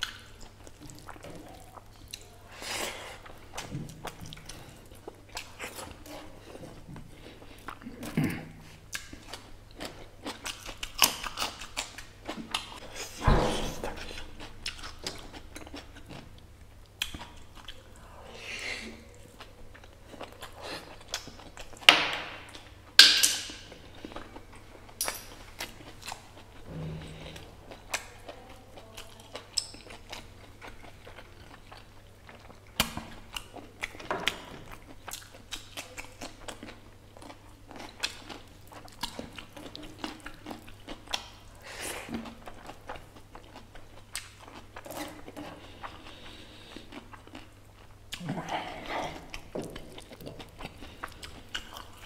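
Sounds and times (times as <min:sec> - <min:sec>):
wet chewing and mouth smacks: 0:00.0 - 0:02.4, 0:03.1 - 0:52.0.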